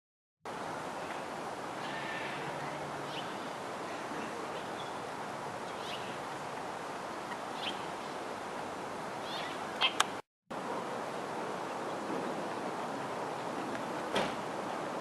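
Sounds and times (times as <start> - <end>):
steady background hiss: 0.5 - 15.0.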